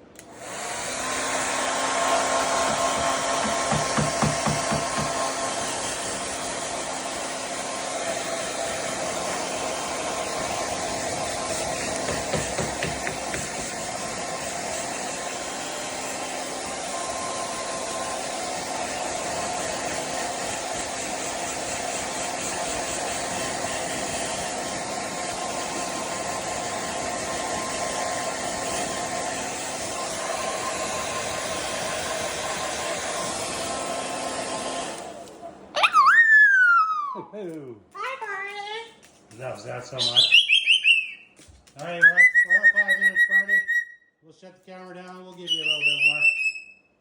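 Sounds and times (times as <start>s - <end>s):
hair dryer blowing: 0.0s - 37.2s, 39.7s - 43.8s, 45.3s - 46.7s.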